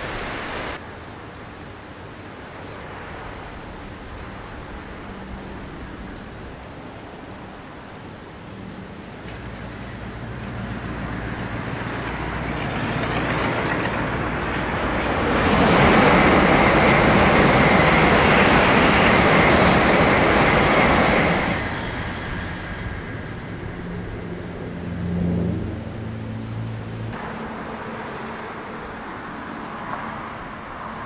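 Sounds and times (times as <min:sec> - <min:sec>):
high-speed train passing: 0:00.0 - 0:31.0.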